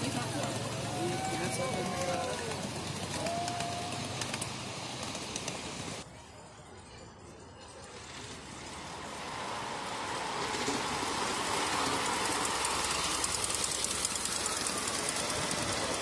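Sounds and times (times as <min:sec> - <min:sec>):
steam train clattering on rails: 0:00.0 - 0:06.0, 0:08.1 - 0:16.0.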